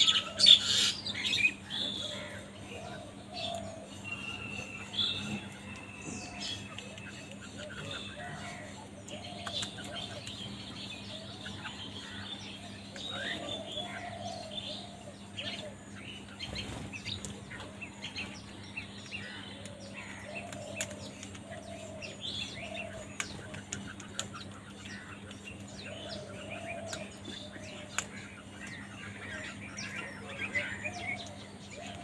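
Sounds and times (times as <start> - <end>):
beaks pecking on concrete: 0.0 - 32.0
birds chirping: 0.0 - 32.0
steady low hum: 0.0 - 32.0.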